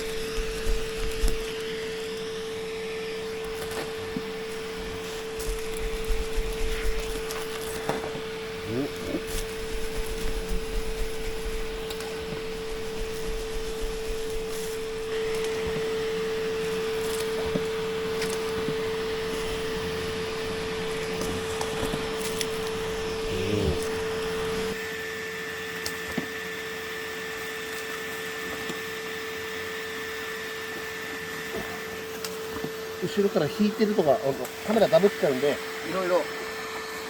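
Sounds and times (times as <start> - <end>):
faint high whine: 0.0 - 37.0
small electric motor humming: 0.0 - 37.0.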